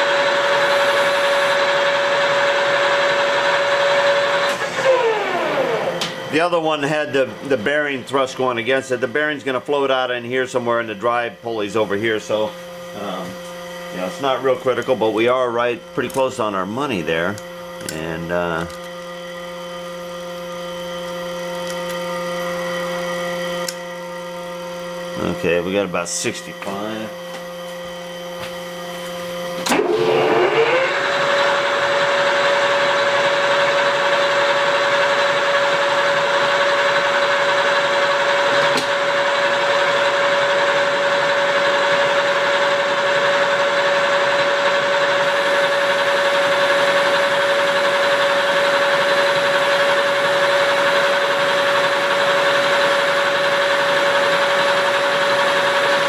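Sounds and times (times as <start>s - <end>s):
lathe motor whining and humming: 0.0s - 56.0s.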